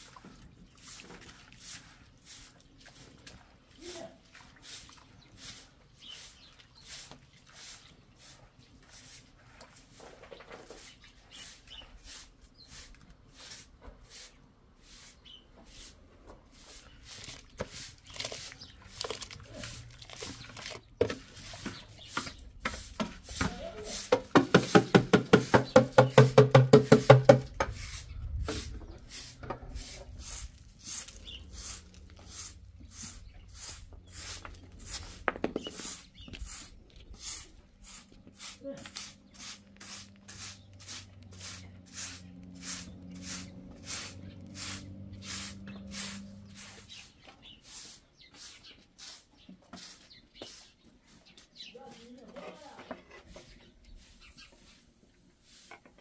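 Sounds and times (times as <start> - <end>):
hands washing rice in water: 0.0 - 10.0, 10.7 - 50.6
broom sweeping dirt: 0.0 - 56.0.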